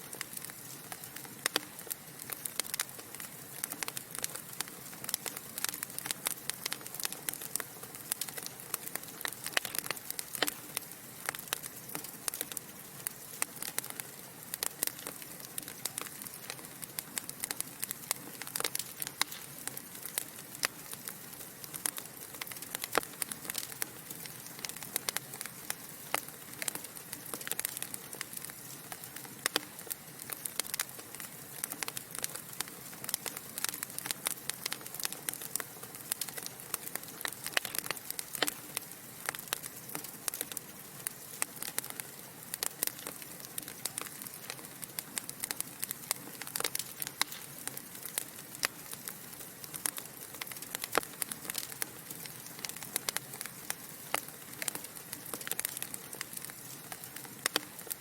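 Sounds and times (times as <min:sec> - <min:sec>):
logs crackling and popping: 0:00.0 - 0:58.0
soft steady hiss: 0:00.0 - 0:58.0.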